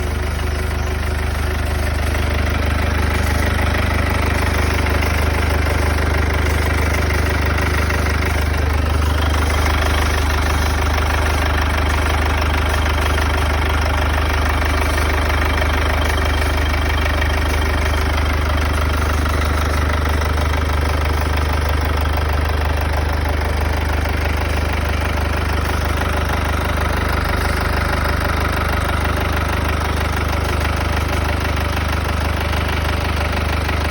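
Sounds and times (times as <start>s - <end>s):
diesel engine idling: 0.0s - 33.9s
strange engine noise: 0.0s - 33.9s.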